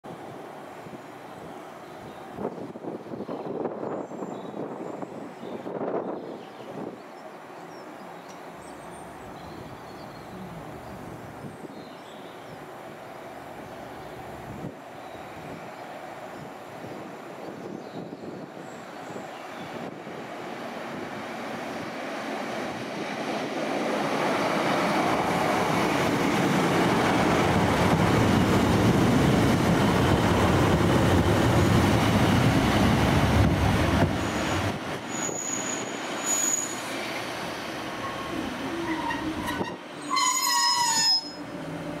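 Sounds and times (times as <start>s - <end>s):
train engine and wheels on rails: 0.0s - 42.0s.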